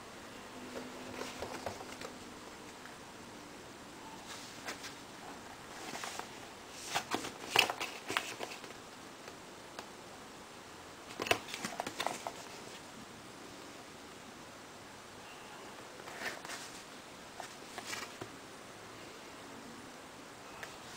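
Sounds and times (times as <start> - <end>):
low room hiss: 0.0 - 20.9.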